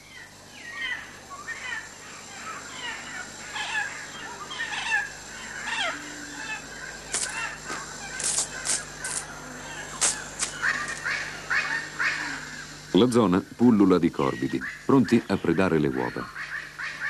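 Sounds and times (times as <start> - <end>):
birds calling: 0.0 - 17.0
high hissy sounds: 0.0 - 17.0.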